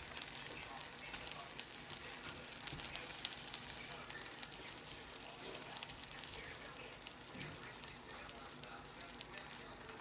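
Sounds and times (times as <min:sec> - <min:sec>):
pancakes sizzling in a pan: 0:00.0 - 0:10.0.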